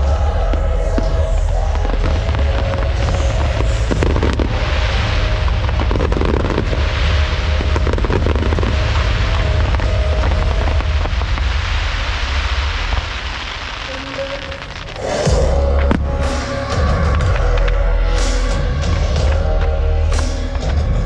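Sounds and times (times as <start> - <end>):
deep rumble of bursts: 0.0 - 21.0
fireworks crackling and popping: 0.0 - 21.0
fireworks hissing: 0.0 - 21.0.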